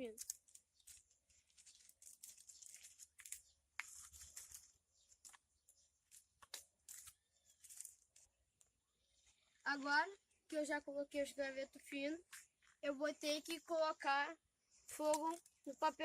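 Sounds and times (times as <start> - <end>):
twigs and leaves crackling: 0.0 - 14.0, 14.8 - 16.0.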